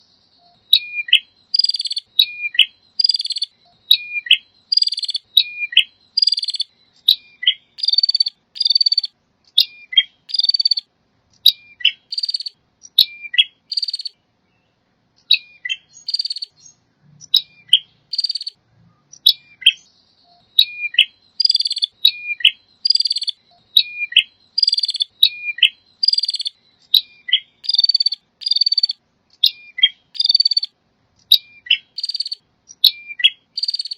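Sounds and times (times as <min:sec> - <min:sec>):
prinia bird calling: 0:00.0 - 0:33.9.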